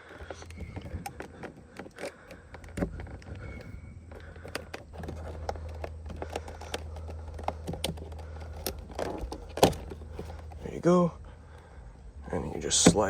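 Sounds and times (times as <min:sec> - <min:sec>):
plastic trim clicks and scrapes: 0:00.0 - 0:10.8
steady low hum: 0:00.0 - 0:13.0.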